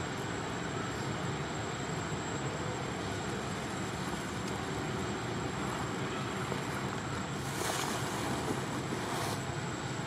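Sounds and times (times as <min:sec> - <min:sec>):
rushing outdoor background noise: 0:00.0 - 0:10.0.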